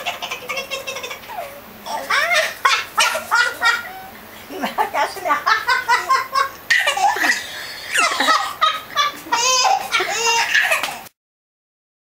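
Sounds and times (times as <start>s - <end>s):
baby laughing: 0.0s - 4.1s, 5.3s - 11.1s.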